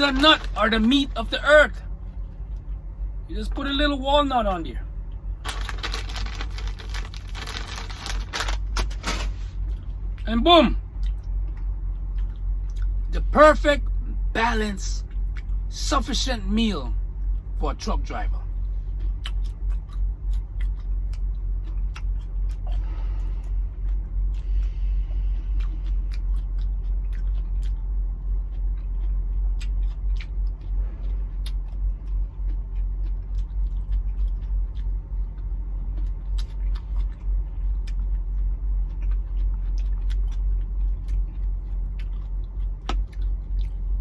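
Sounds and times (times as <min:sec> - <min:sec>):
low rumble: 0:00.0 - 0:44.0.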